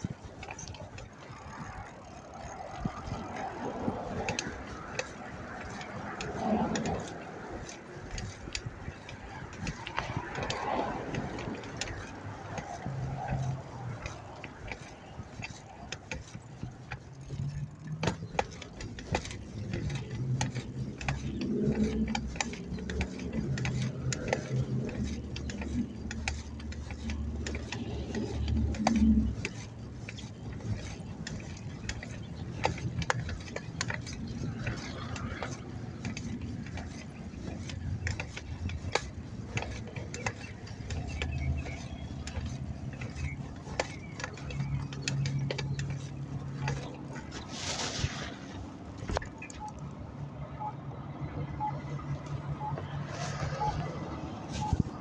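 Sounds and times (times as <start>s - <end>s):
bicycle freewheel ratcheting clicks: 0.0s - 47.6s
low traffic rumble: 0.0s - 55.0s.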